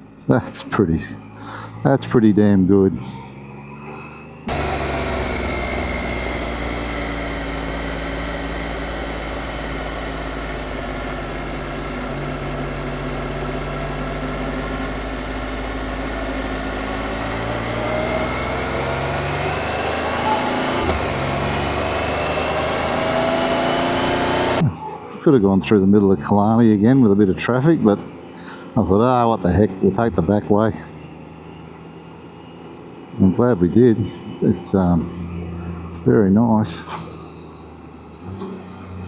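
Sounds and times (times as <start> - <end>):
engine drone while riding: 0.0 - 39.0.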